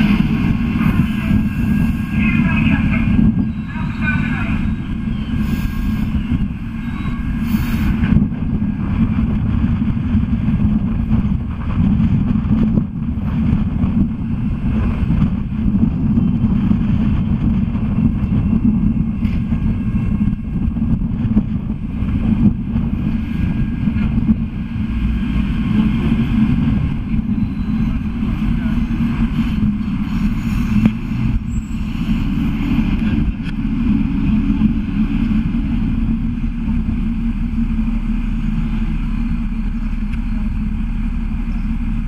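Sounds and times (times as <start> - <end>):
tram rumbling on rails: 0.0 - 42.0.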